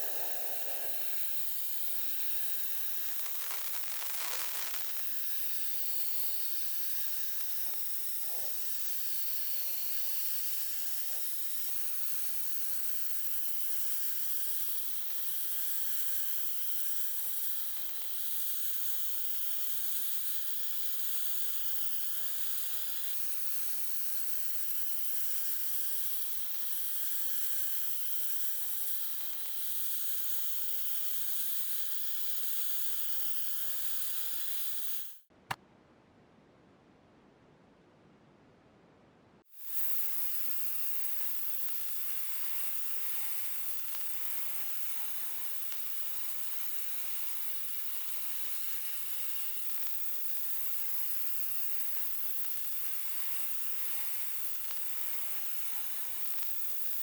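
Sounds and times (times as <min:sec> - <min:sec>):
spraying hiss of air: 0:00.0 - 0:35.3, 0:39.5 - 0:57.0.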